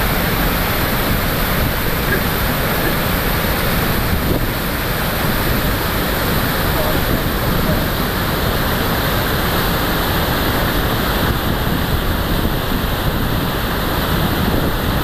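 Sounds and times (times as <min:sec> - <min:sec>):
river water pouring over weir: 0:00.0 - 0:15.0.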